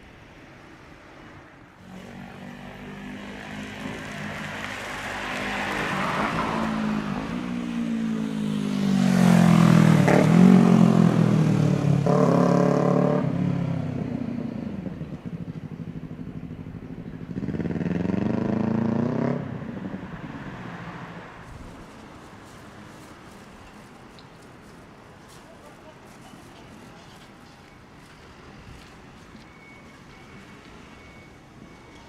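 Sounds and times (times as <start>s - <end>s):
vehicles passing by: 0.0s - 32.0s.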